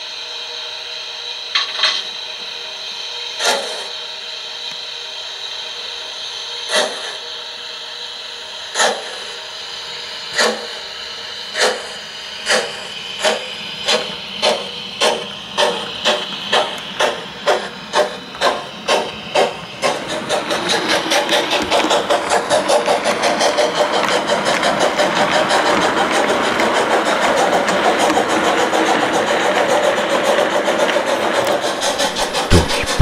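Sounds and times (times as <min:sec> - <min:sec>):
steam hiss: 0:02.1 - 0:33.0
steam locomotive exhaust chuffs: 0:02.2 - 0:33.0.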